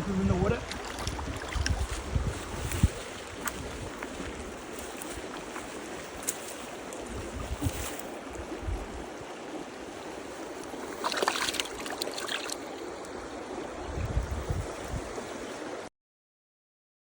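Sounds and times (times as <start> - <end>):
wind buffeting the microphone: 0.0 - 10.9, 13.0 - 15.8
river water rushing: 0.0 - 15.9
water splashing: 0.0 - 15.9.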